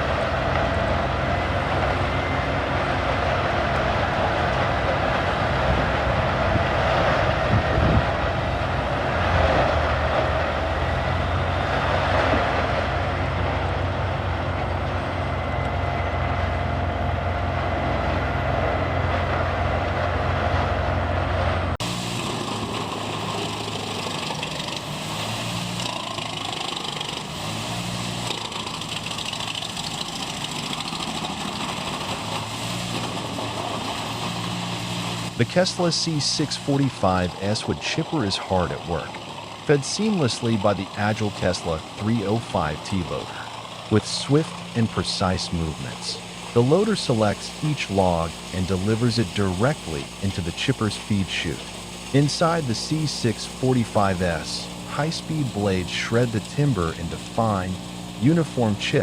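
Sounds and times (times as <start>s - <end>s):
heavy machinery grinding drone: 0.0s - 59.0s
quieter machine running: 0.0s - 59.0s.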